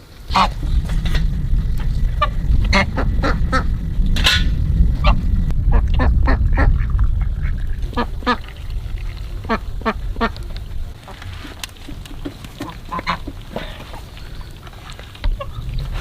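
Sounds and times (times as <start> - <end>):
steady low rumble: 0.0 - 16.0
ducks quacking: 0.2 - 16.0.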